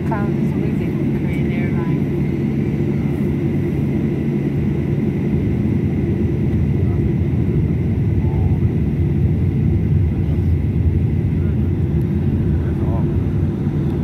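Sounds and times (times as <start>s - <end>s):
airliner taxiing rumble: 0.0s - 14.0s.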